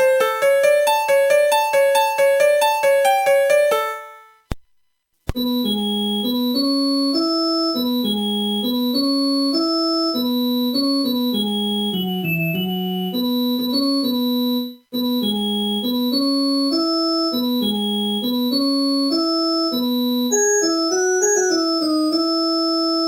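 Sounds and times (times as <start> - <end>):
electronic phone ringtone melody: 0.0 - 4.4, 5.4 - 23.0.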